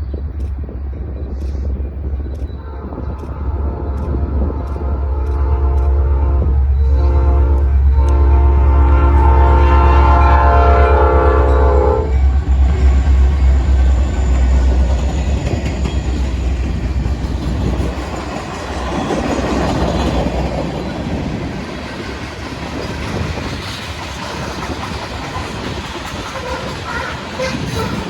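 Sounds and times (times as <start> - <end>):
locomotive engine rumble: 0.0 - 28.0
train wheels clattering: 0.3 - 28.0.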